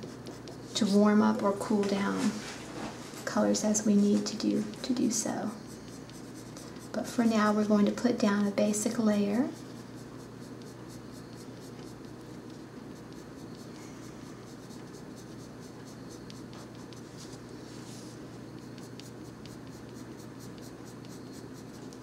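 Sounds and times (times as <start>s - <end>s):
pencil scratching on paper: 0.0s - 2.4s, 3.6s - 17.4s, 18.5s - 22.0s.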